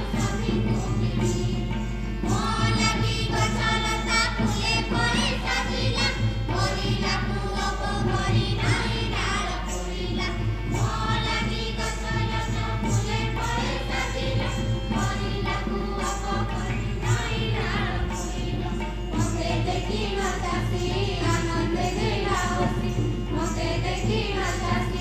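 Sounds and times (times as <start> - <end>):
group of voices singing: 0.0 - 25.0.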